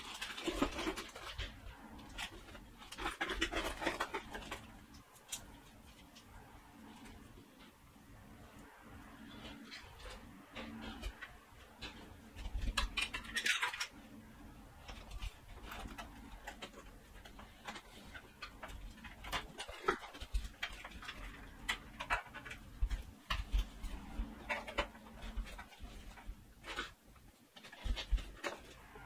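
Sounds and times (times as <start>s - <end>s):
rustling: 0.0s - 29.0s.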